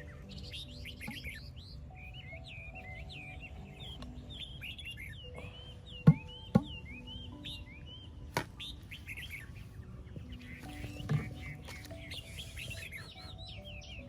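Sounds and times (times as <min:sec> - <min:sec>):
small birds chirping: 0:00.0 - 0:14.0
soft background music: 0:00.0 - 0:14.0.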